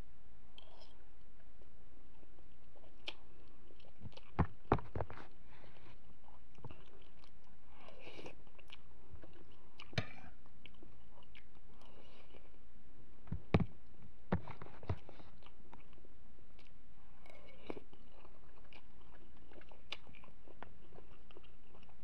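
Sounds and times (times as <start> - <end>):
person chewing: 2.1 - 12.6, 14.4 - 22.0.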